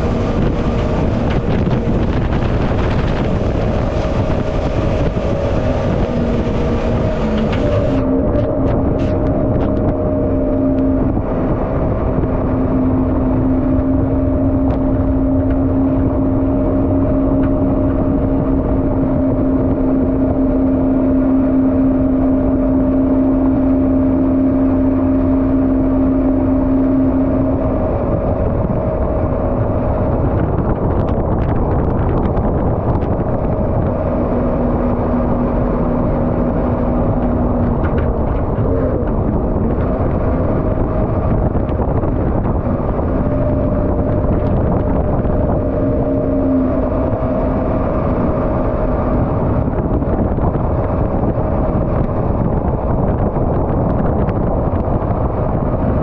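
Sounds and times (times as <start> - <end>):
boat engine running: 0.0 - 56.0
water and wind rushing: 0.0 - 56.0.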